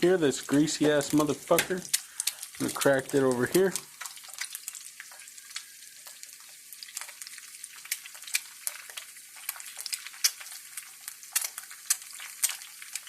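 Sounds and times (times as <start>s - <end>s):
eggs sizzling in hot oil: 0.0s - 13.0s
oil popping and crackling: 0.0s - 13.0s.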